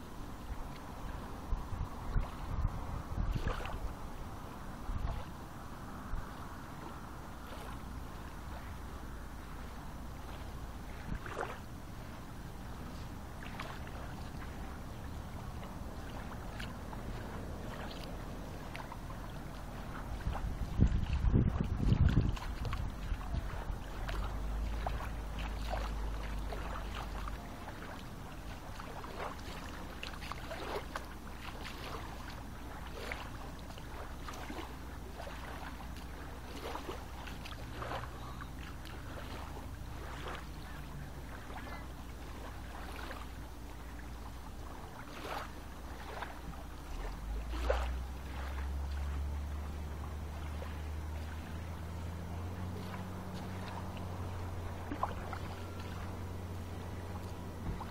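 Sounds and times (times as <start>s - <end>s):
lake waves lapping: 0.0s - 57.9s
low steady rumble: 0.0s - 57.9s.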